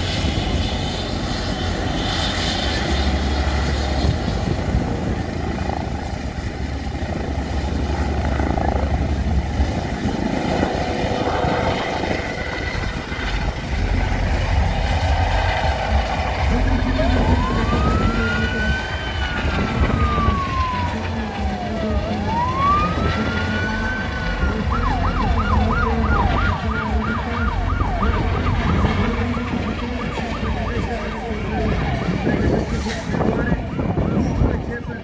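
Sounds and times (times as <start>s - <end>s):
helicopter flying past: 0.0s - 35.0s
siren wailing and yelping: 5.3s - 13.6s, 14.7s - 35.0s.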